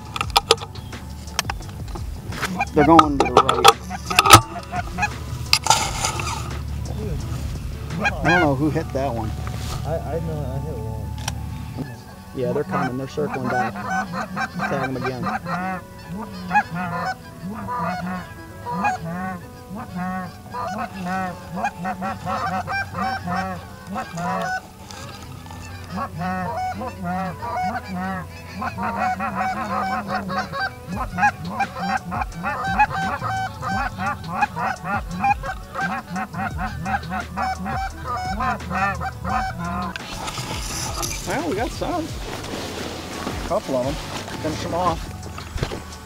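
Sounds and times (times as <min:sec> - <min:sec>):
geese honking and clucking: 0:00.0 - 0:46.0.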